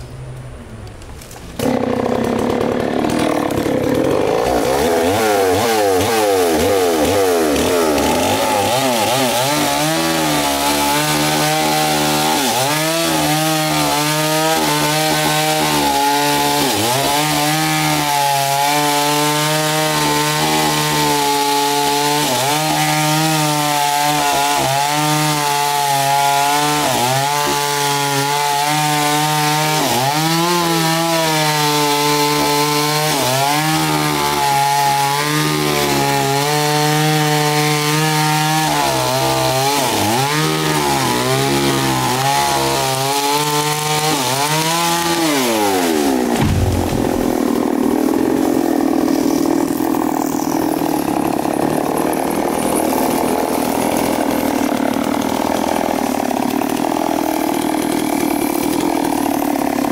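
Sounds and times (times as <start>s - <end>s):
chainsaw cutting tree trunk: 1.1s - 59.9s.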